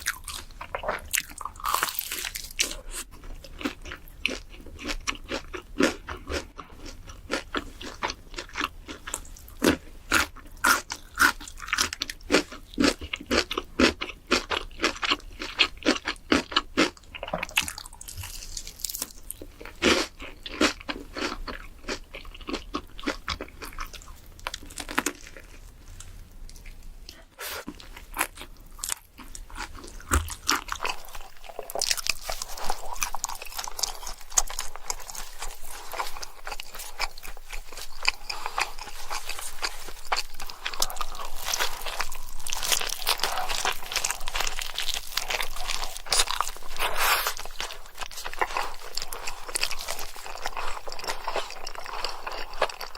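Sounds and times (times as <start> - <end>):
crunchy food chewing: 0.0 - 52.9.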